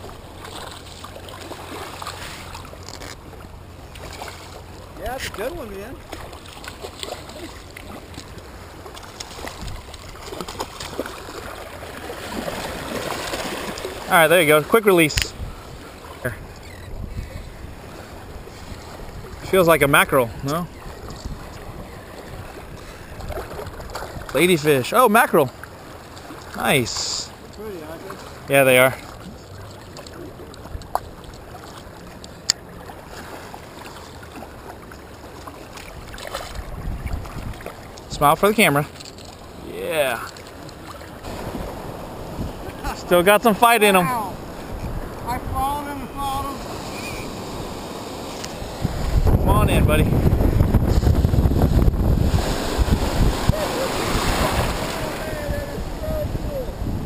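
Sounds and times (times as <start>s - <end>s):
surf water sloshing: 0.0s - 57.0s.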